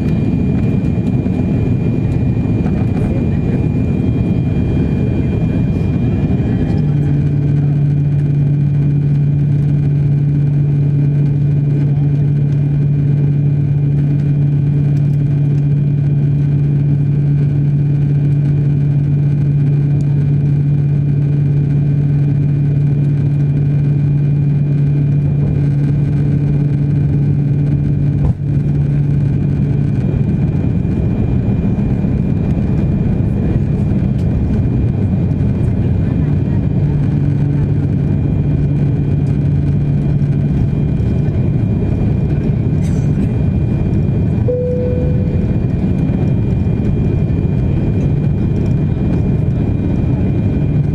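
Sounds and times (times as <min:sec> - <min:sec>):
low hum: 0:00.0 - 0:50.9
rush of air and engine drone: 0:00.0 - 0:50.9.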